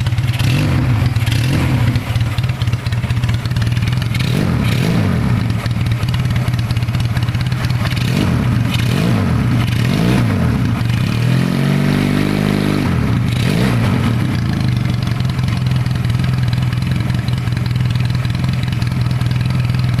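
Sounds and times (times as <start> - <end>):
scooter engine idling and revving: 0.0 - 20.0.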